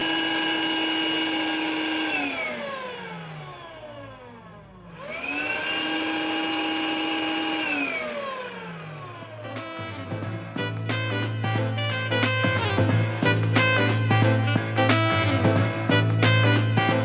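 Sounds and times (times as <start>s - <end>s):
vacuum cleaner motor whining: 0.0s - 17.0s.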